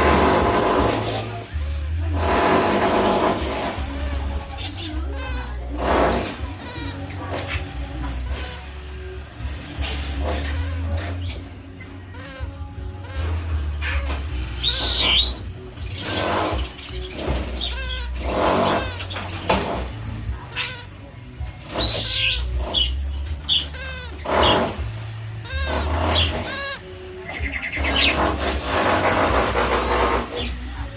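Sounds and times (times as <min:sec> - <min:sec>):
animal chirps and squawks: 0:02.1 - 0:30.9.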